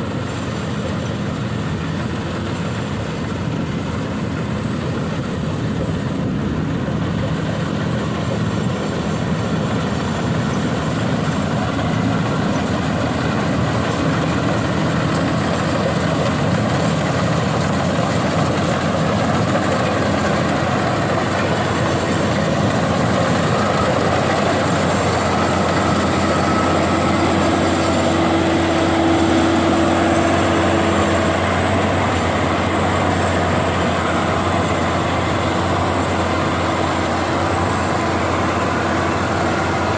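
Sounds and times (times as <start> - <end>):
combine harvester droning: 0.0 - 39.9
high mechanical whine: 0.0 - 39.9.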